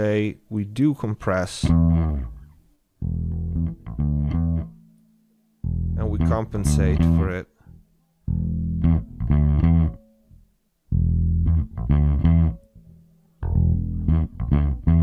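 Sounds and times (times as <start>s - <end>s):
bass guitar riff: 1.6s - 4.9s, 5.6s - 15.0s.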